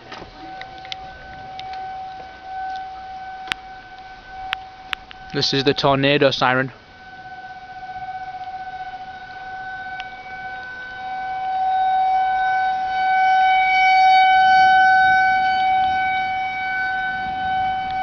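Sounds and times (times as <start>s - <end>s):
rotating warning siren tone: 0.0s - 18.0s.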